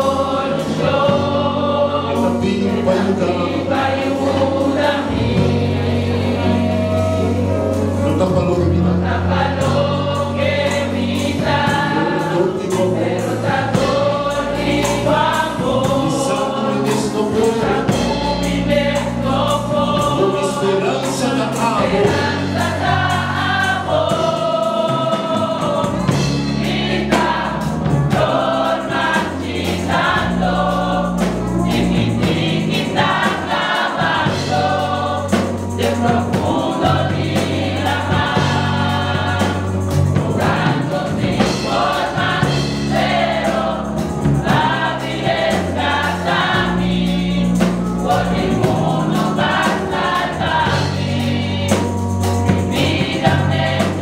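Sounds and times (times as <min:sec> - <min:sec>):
choir singing a gospel hymn: 0:00.0 - 0:54.0
instrumental accompaniment with bass: 0:00.0 - 0:54.0.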